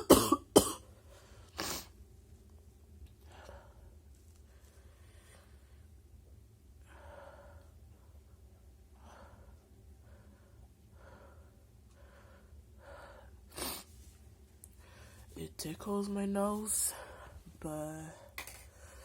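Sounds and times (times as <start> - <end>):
faint noisy breaths: 0.8 - 2.0, 3.2 - 15.4, 16.6 - 19.0.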